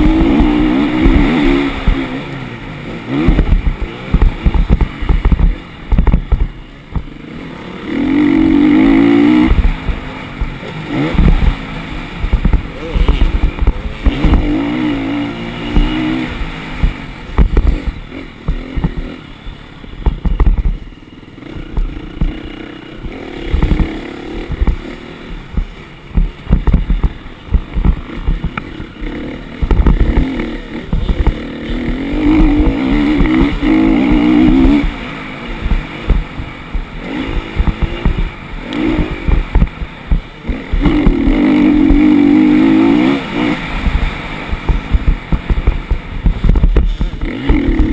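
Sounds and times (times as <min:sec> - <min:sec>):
low thumps: 0:00.0 - 0:02.2, 0:03.2 - 0:07.2, 0:08.4 - 0:14.7, 0:15.6 - 0:19.1, 0:20.0 - 0:20.9, 0:21.5 - 0:47.9
dirt bike engine revving: 0:00.0 - 0:47.9.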